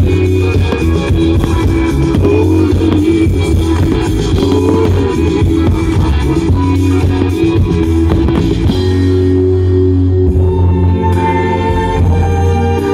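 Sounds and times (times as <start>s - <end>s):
loud rock music: 0.0s - 12.9s.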